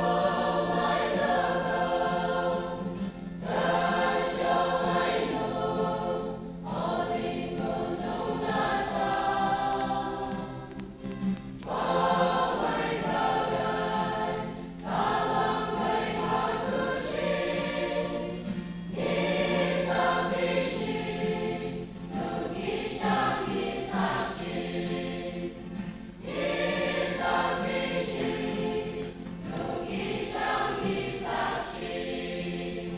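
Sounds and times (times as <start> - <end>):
choir singing: 0.0 - 32.9.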